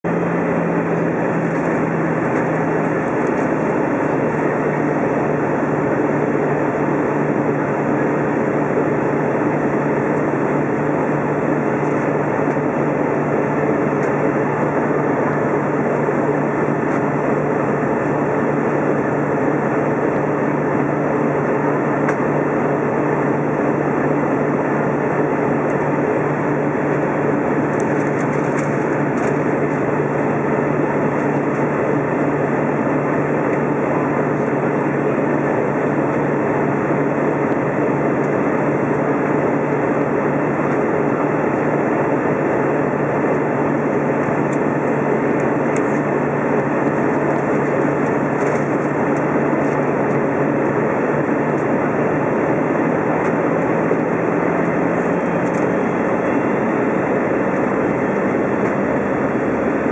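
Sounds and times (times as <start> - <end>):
airplane cabin engine rush: 0.0 - 59.9.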